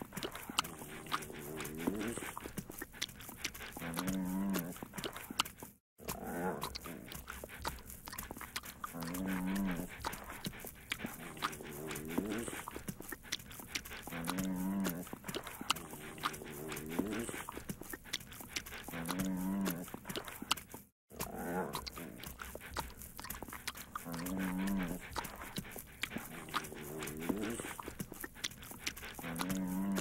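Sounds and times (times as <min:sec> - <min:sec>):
puppy licking: 0:00.0 - 0:30.0.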